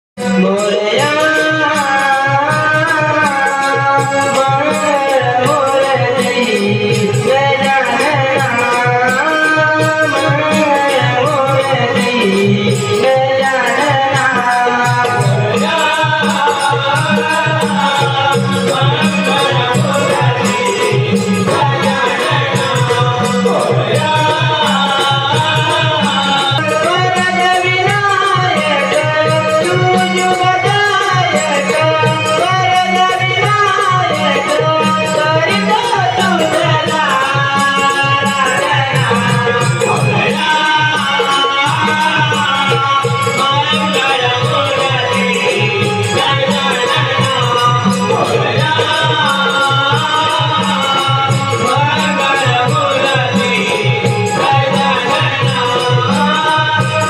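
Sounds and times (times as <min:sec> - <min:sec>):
drum beating steady rhythm: 0:00.2 - 0:57.0
person singing devotional song: 0:00.2 - 0:57.0.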